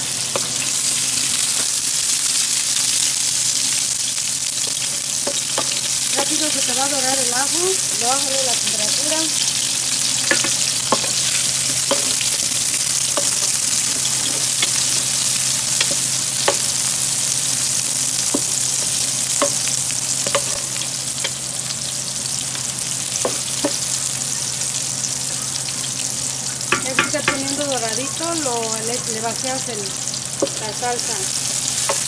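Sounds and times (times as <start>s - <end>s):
garlic and onion sizzling in oil: 0.0s - 32.0s.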